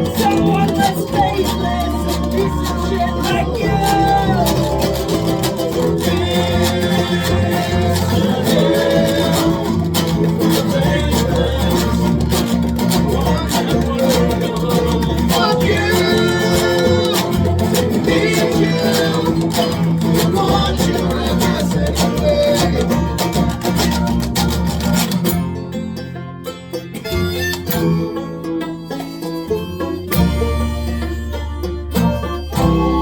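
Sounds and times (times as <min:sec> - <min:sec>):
live band playing: 0:00.0 - 0:25.7, 0:27.0 - 0:33.0
strummed guitar: 0:00.0 - 0:33.0.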